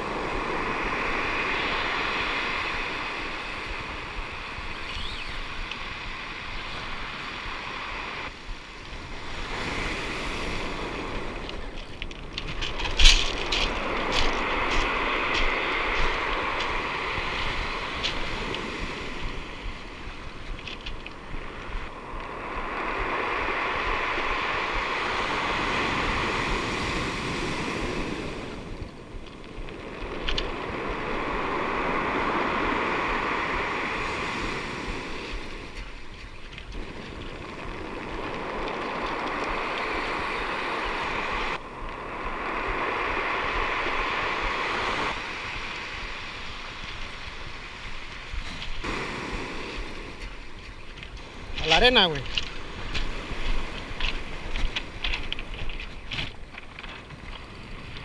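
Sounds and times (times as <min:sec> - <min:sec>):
surf breaking on pebble beach: 0:00.0 - 0:58.0
wind on microphone: 0:00.0 - 0:58.0.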